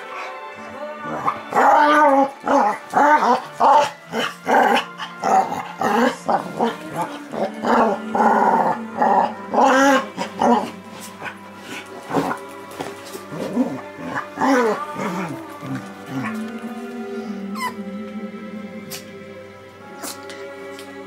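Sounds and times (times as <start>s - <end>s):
dogs growling and snarling: 0.0s - 17.8s.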